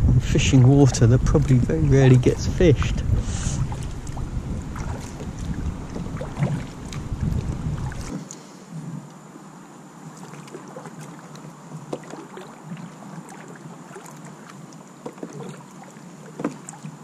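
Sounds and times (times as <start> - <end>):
paddle splashing in water: 0.8 - 8.4, 10.1 - 17.0.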